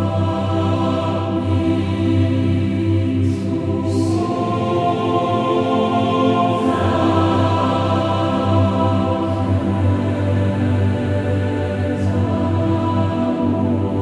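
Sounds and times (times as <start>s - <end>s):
slow choir-like chords: 0.0s - 14.0s.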